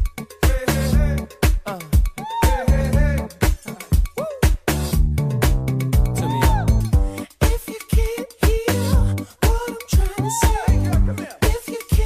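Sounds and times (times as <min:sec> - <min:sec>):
upbeat dance music: 0:00.0 - 0:12.0.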